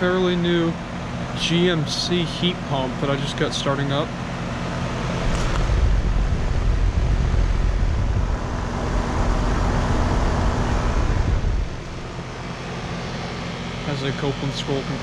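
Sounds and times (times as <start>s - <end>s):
heat pump compressor humming: 0.0s - 15.0s.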